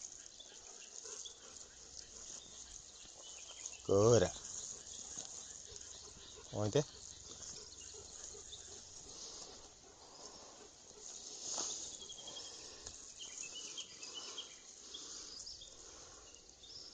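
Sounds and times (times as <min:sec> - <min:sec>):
songbirds chirping: 0:00.0 - 0:16.9.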